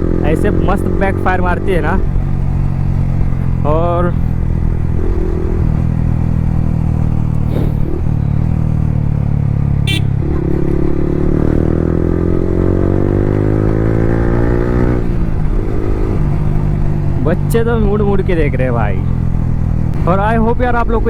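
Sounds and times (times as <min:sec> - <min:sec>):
motorcycle engine revving: 0:00.0 - 0:20.8.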